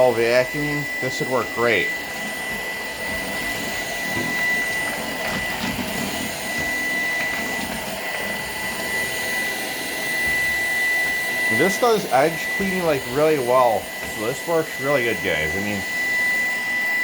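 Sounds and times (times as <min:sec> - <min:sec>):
cordless vacuum running: 0:00.0 - 0:17.0.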